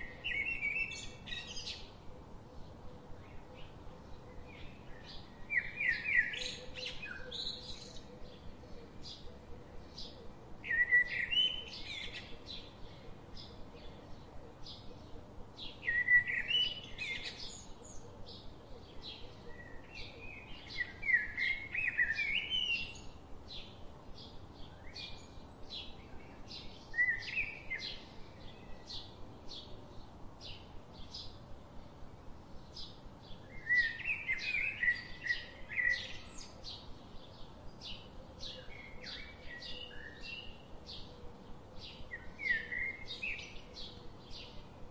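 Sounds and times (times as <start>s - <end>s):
bird warbling song: 0.0s - 2.0s, 2.6s - 31.4s, 32.6s - 44.9s
bird chirping: 2.6s - 31.4s, 32.5s - 44.9s.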